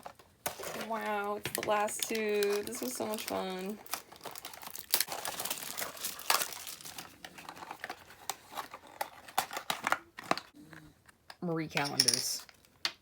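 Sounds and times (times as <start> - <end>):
packaging crinkling and tearing: 0.0 - 10.6.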